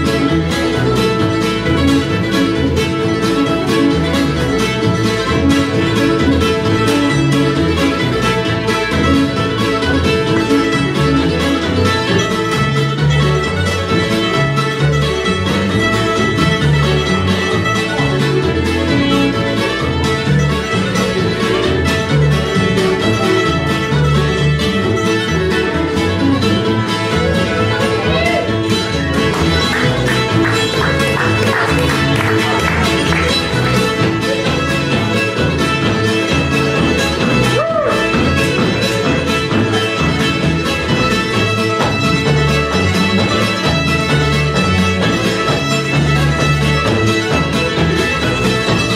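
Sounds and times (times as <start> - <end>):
acoustic guitar: 0.0 - 48.9
fiddle: 0.0 - 48.9
mandolin: 0.0 - 48.9
upright bass: 0.0 - 48.9.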